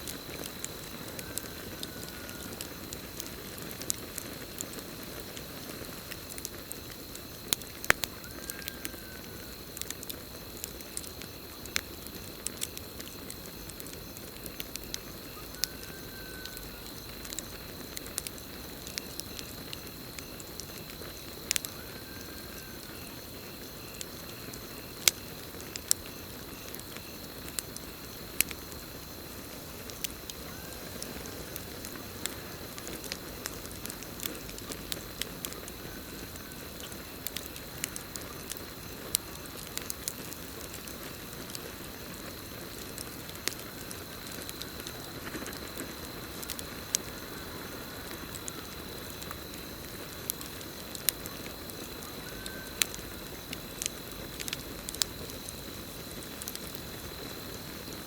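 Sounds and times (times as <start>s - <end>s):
campfire crackling and popping: 0.0s - 58.0s
crickets trilling: 0.0s - 58.0s.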